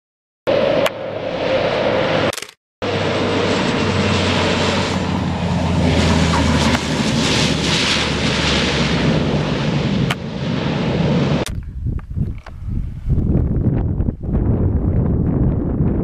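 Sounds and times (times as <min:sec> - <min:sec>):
turboprop engines droning: 0:00.5 - 0:16.0.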